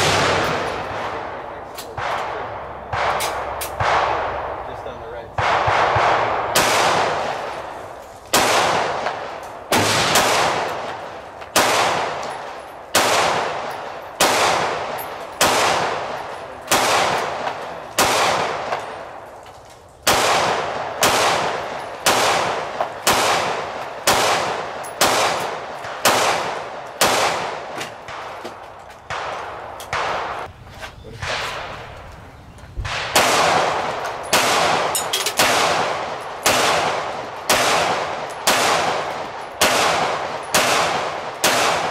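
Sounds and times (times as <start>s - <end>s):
gunshots with echo: 0.0s - 19.3s, 20.0s - 28.5s, 29.1s - 30.5s, 31.2s - 31.9s, 32.8s - 41.9s.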